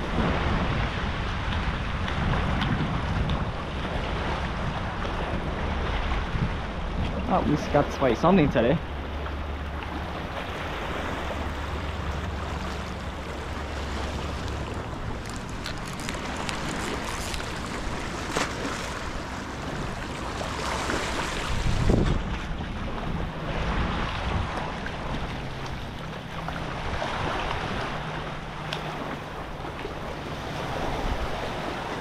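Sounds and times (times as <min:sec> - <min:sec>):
lapping seawater: 0:00.0 - 0:32.0
wind buffeting microphone: 0:00.0 - 0:32.0.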